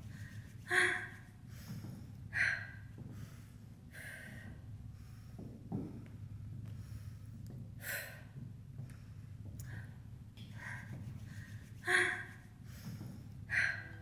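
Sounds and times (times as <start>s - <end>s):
woman breathing heavily: 0.0s - 14.0s.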